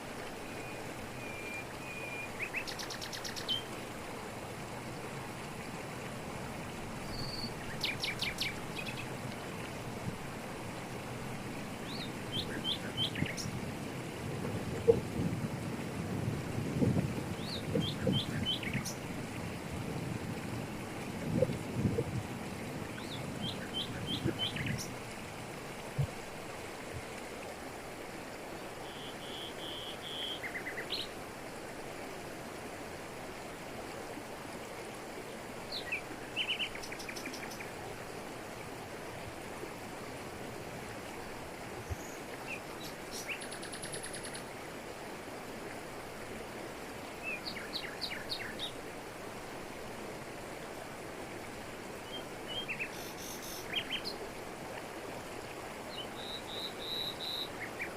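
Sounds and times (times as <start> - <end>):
waterfall rushing over rocks: 0.0 - 57.9.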